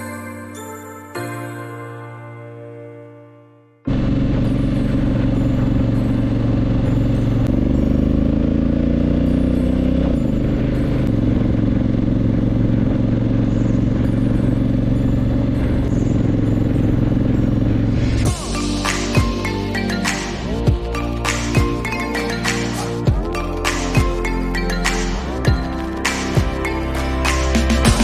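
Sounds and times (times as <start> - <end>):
motorcycle engine running: 3.9 - 28.0.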